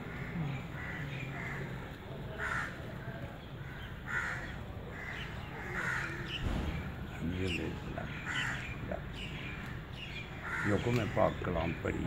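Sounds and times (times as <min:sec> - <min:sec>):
crows cawing: 0:00.0 - 0:03.0, 0:03.6 - 0:06.4, 0:08.0 - 0:12.0.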